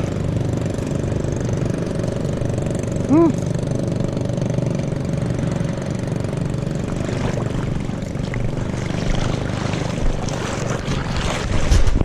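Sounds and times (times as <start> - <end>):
low motor drone: 0.0 - 12.0
water and wind noise: 0.0 - 12.0.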